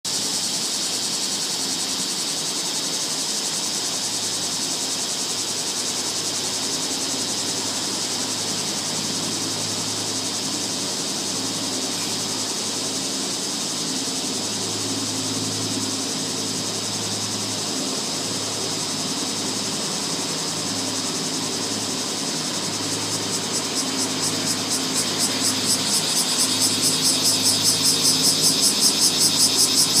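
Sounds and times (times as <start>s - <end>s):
cicadas chorus: 0.0s - 30.0s
pulsing insect call: 0.1s - 30.0s.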